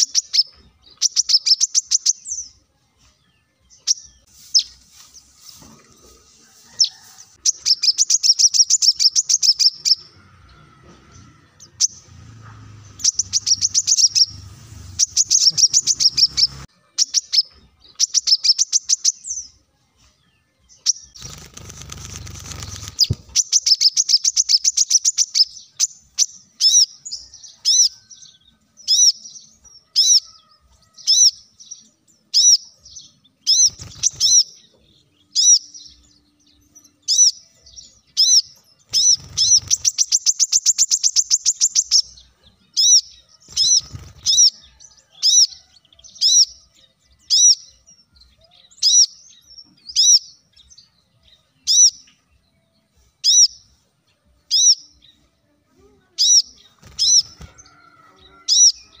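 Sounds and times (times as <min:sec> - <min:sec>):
bird trill: 0:00.0 - 0:02.6, 0:06.8 - 0:12.1, 0:12.9 - 0:19.5, 0:20.7 - 0:52.2, 0:54.4 - 0:55.2, 0:56.2 - 0:59.0.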